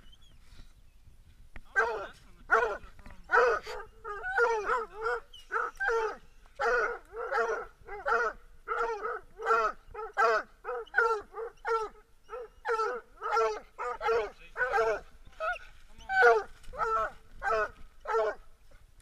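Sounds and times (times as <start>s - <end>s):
hound barking: 1.7s - 18.5s.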